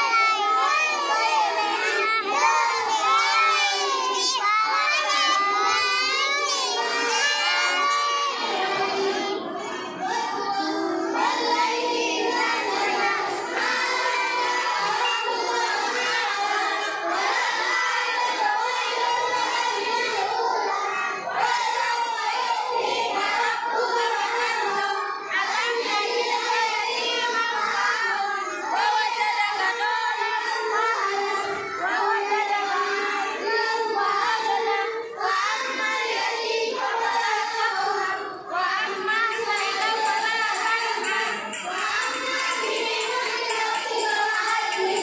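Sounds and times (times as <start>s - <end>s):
crowd of children shouting: 0.0s - 45.0s.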